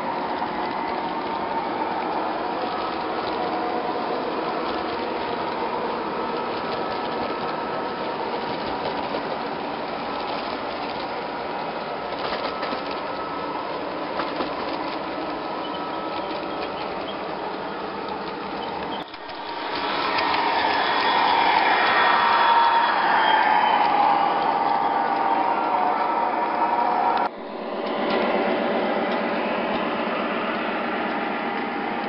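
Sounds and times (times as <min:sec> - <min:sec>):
model trains whirring and rattling: 0:00.0 - 0:32.0.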